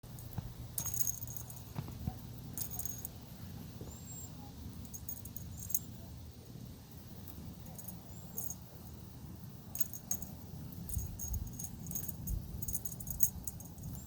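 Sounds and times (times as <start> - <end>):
light metallic jingling: 0.0 - 14.0
low steady hum: 0.0 - 14.0.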